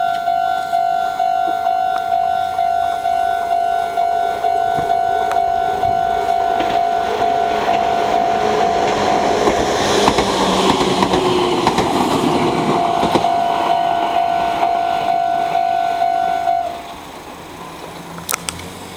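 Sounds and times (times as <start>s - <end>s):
level crossing warning bell: 0.0s - 16.9s
electric train running: 0.0s - 18.9s
wheels clicking over rail joints: 0.0s - 18.9s.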